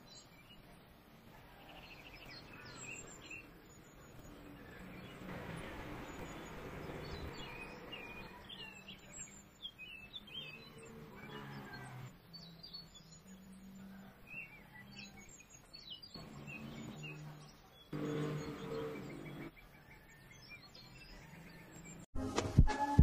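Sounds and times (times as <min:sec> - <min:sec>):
faint birdsong: 0:00.0 - 0:22.1.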